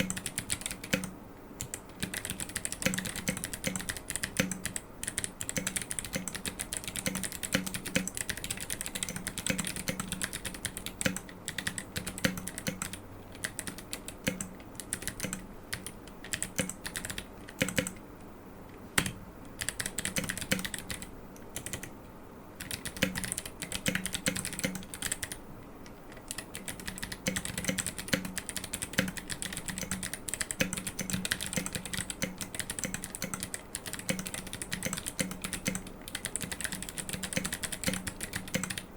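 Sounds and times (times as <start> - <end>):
mechanical keyboard typing: 0.0 - 18.0, 19.0 - 22.0, 22.6 - 25.4, 26.1 - 38.9.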